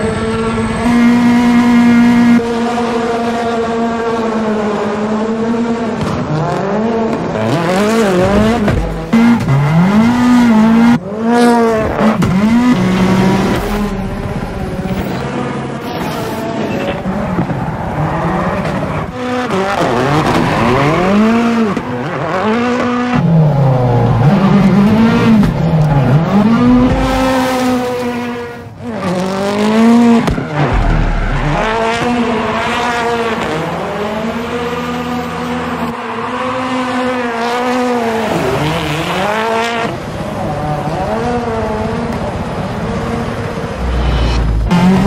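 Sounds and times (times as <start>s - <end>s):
rally car engine revving hard: 0.0s - 45.0s.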